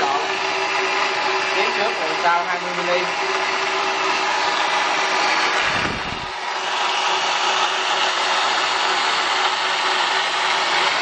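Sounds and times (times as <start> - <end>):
drill motor whirring: 0.0 - 11.0.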